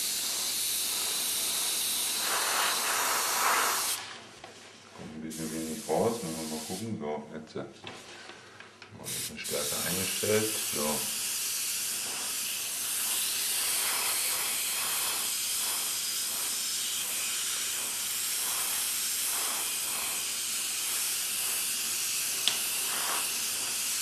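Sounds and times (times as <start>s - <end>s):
airbrush hissing: 0.0s - 4.1s, 5.3s - 6.9s, 9.0s - 24.0s.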